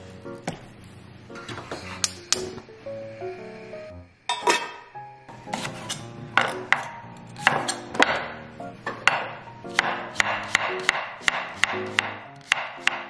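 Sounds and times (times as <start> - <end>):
background music with held notes: 0.0 - 4.2, 4.8 - 13.0.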